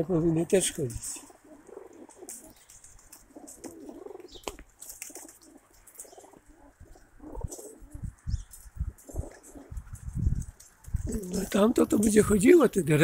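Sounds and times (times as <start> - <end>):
pigeons cooing: 0.0 - 12.8.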